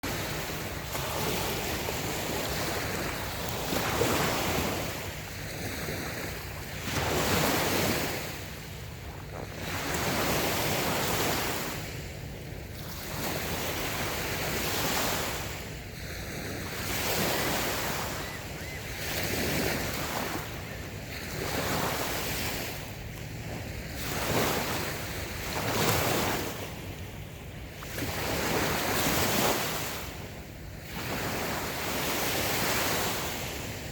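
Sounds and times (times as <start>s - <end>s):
small waves breaking on shore: 0.0s - 33.9s.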